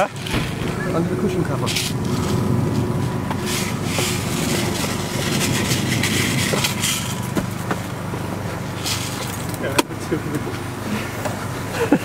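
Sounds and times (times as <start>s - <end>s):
motor vehicle engine rumble: 0.0s - 12.0s.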